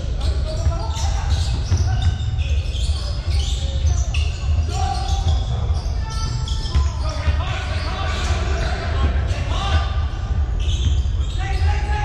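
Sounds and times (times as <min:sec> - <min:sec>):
sneakers squeaking on court: 0:00.0 - 0:09.4, 0:10.0 - 0:11.9.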